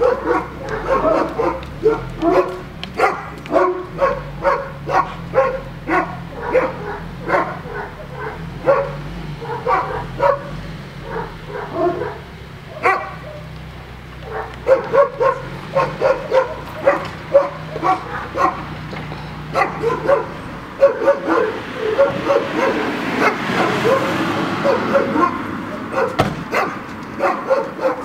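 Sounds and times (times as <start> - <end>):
dog barking and yipping: 0.0 - 28.0.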